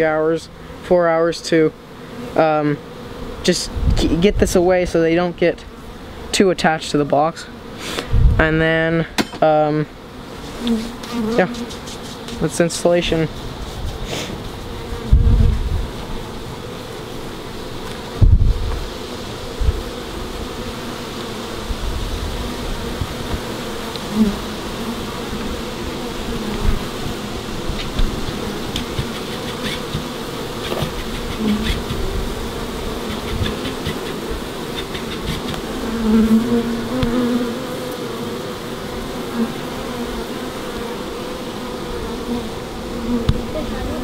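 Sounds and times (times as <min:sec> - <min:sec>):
bees buzzing: 0:00.0 - 0:44.0.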